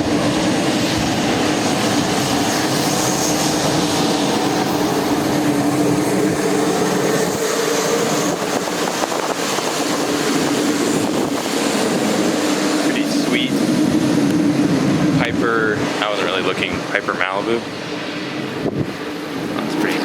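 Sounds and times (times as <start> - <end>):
propeller plane engine passing: 0.0 - 20.0.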